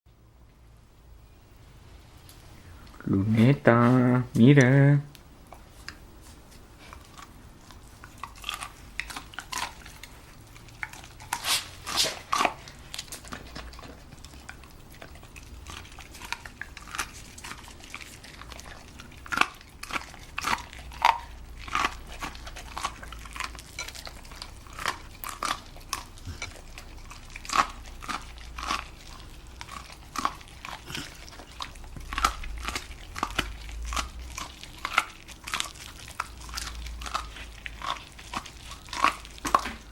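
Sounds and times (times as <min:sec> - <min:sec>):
dog chewing corncob: 0:03.7 - 0:39.9.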